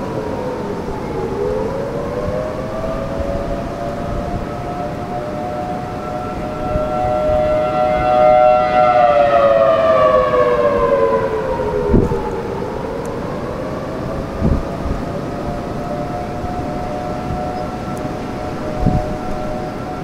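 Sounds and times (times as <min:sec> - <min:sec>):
strong wind: 0:00.0 - 0:20.0
siren attack signal: 0:02.1 - 0:20.0.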